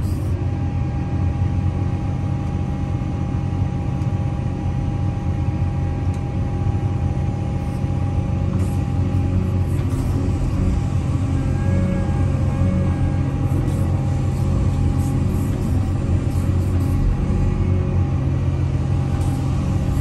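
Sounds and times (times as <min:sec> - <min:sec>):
diesel engine rumble: 0:03.8 - 0:20.0.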